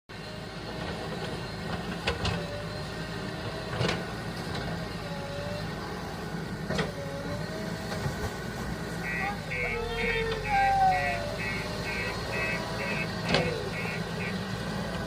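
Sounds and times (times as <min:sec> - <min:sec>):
diesel engine running: 0:00.1 - 0:15.0.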